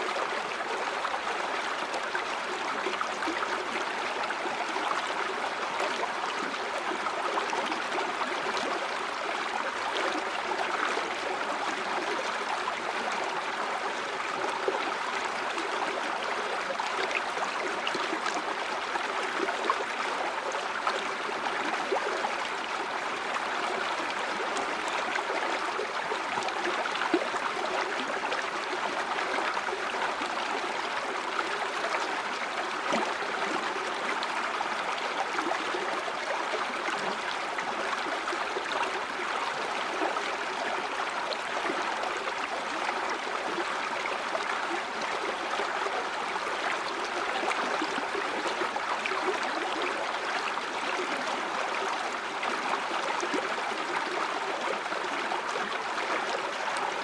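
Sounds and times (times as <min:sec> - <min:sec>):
river water babbling over stones: 0:00.0 - 0:57.0.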